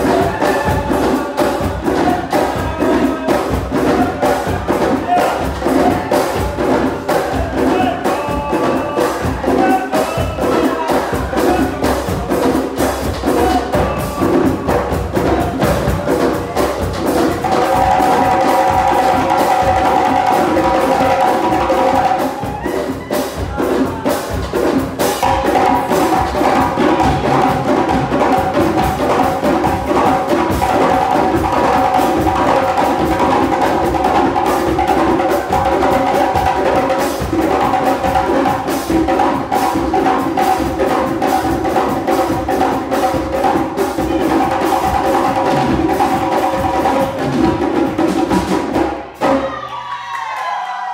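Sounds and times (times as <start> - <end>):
drum kit playing: 0.0 - 49.8
djembe hand drums: 0.0 - 49.9.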